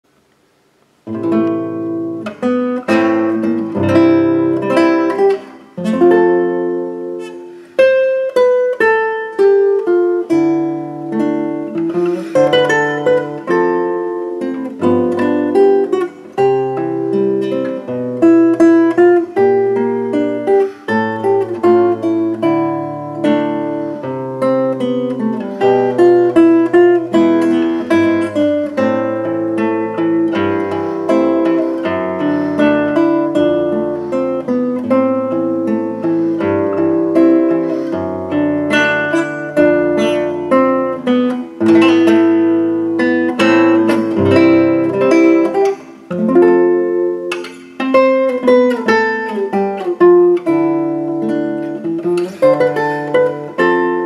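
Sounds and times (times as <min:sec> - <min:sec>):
fingerpicked classical guitar: 0:00.1 - 0:54.0.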